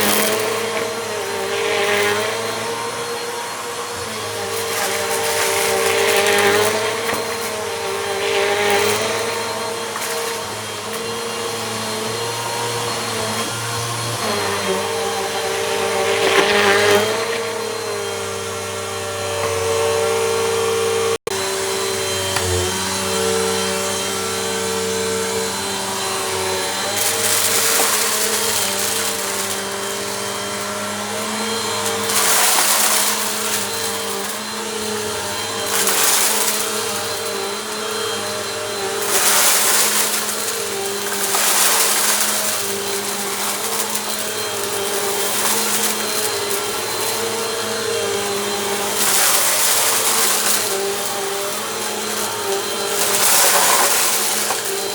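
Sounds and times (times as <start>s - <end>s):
grit crunching in vacuum: 0.0s - 54.9s
vacuum cleaner running: 0.0s - 54.9s.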